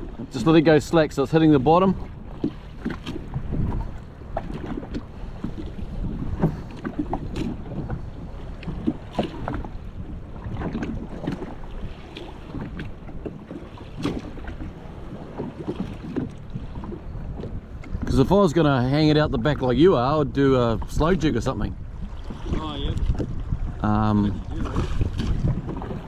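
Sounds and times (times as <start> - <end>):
waves slapping against hull: 0.0 - 26.0
wind buffeting microphone: 0.0 - 26.0.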